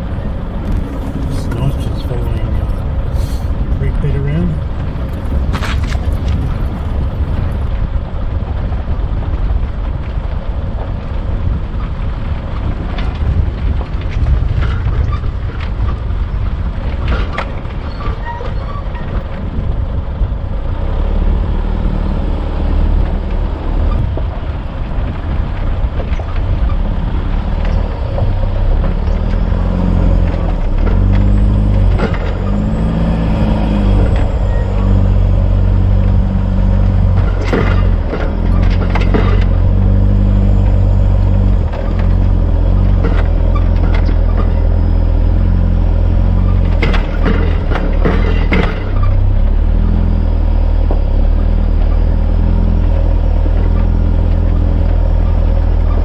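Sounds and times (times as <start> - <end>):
knocks and rattles over bumps: 0.0 - 21.0, 21.6 - 56.0
diesel engine running: 0.0 - 56.0
road noise: 0.0 - 56.0.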